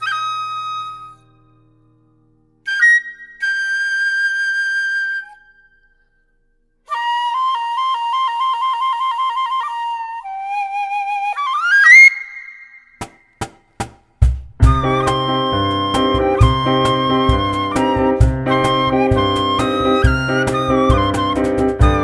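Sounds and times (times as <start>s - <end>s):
bamboo flute playing solo: 0.0s - 1.4s, 2.7s - 5.7s, 6.9s - 12.9s, 14.6s - 22.0s.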